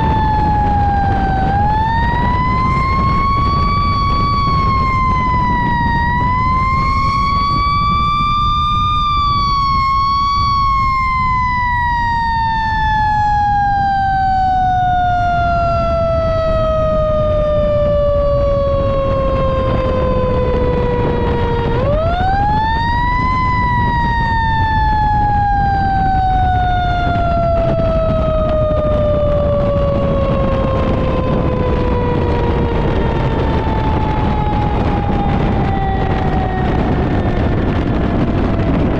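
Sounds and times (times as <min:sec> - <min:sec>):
road noise: 0:00.0 - 0:38.9
truck engine rumble: 0:00.0 - 0:38.9.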